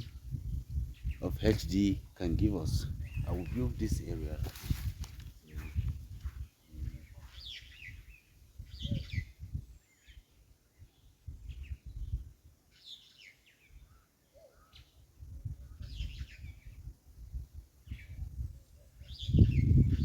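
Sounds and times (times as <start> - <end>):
birds chirping: 0.0 - 16.9, 17.8 - 20.0.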